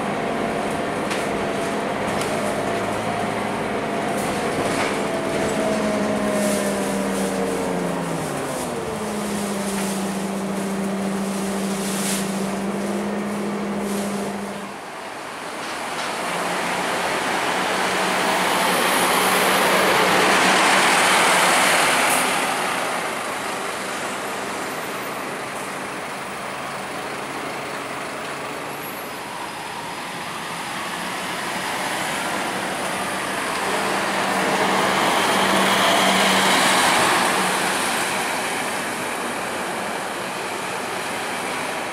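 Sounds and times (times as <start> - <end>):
bus engine droning: 0.0 - 41.9
road traffic noise: 0.0 - 41.9.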